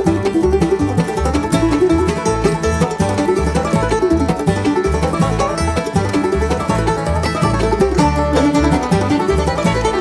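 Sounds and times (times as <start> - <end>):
plucked-string picking: 0.0 - 10.0.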